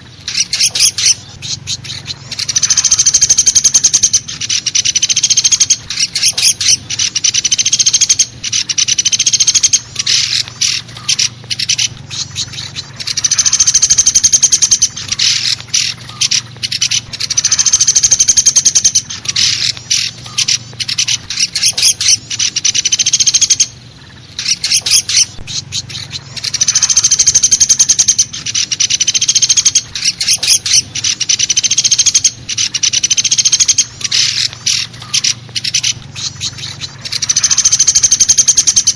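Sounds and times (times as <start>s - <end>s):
woodpecker rattling trills: 0.0s - 38.9s.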